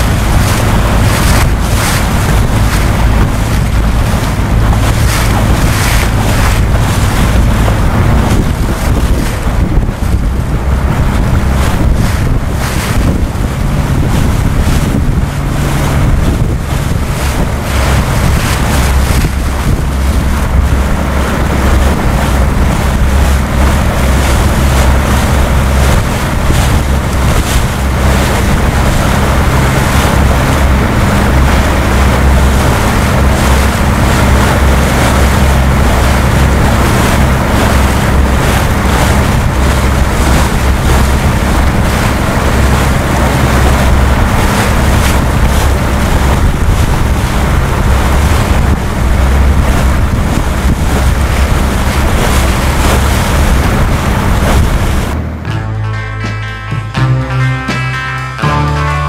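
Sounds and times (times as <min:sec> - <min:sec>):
wind buffeting microphone: 0:00.0 - 0:55.4
low hum: 0:00.0 - 0:59.0
waves splashing: 0:00.0 - 0:59.0.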